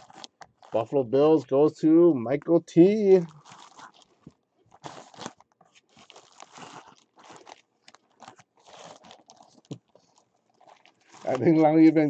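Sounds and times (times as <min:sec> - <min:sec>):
plastic bag crinkling: 0:00.0 - 0:00.8, 0:02.9 - 0:12.0.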